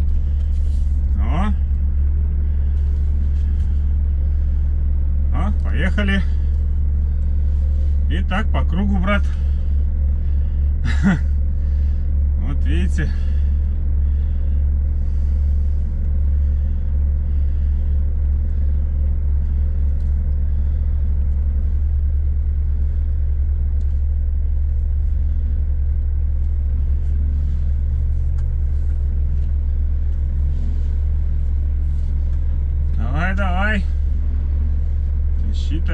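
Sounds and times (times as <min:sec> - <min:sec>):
truck diesel engine running: 0:00.0 - 0:35.9.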